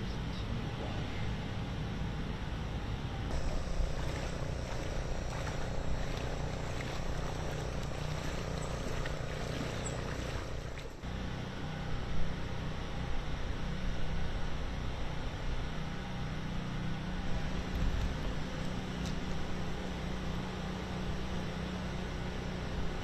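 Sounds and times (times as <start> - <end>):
motor drone with low rumble: 0.0 - 23.0.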